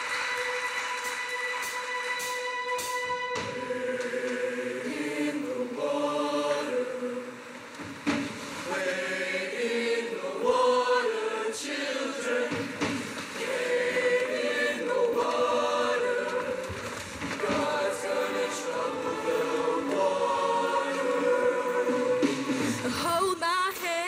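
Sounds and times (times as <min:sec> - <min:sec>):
choir singing in harmony: 0:00.0 - 0:22.9.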